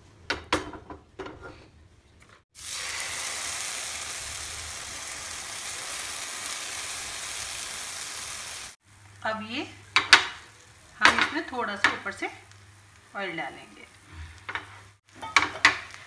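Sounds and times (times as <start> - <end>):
batter sizzling on hot griddle: 2.6 - 16.0.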